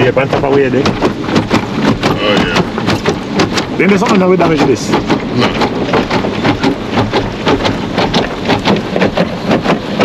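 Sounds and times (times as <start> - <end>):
car wash water drumming on car: 0.0 - 10.0
steady water rush: 0.0 - 10.0.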